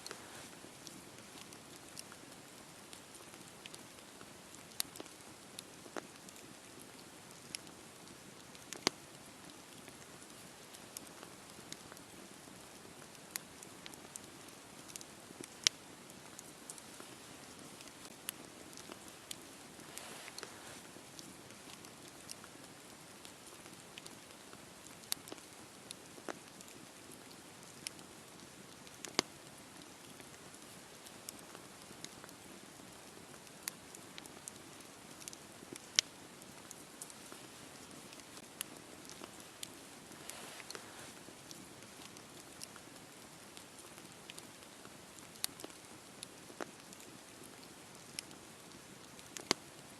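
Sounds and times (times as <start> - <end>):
campfire hissing and crackling: 0.0 - 49.9.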